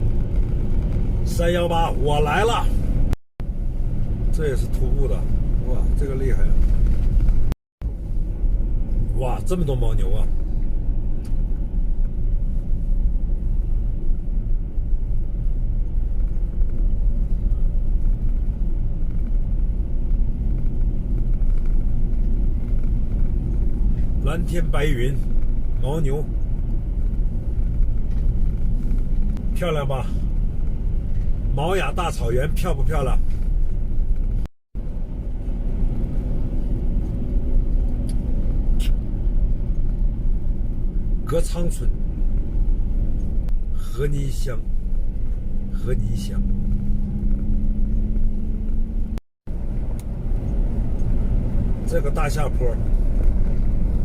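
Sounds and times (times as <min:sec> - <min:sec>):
engine and road noise rumble: 0:00.0 - 0:54.0
van driving on highway: 0:00.0 - 0:54.0.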